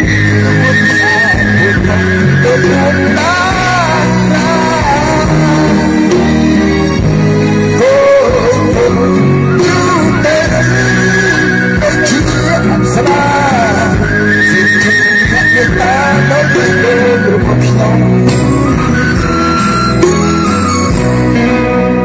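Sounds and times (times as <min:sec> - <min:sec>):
person singing: 0:00.0 - 0:20.2
band backing: 0:00.0 - 0:22.0.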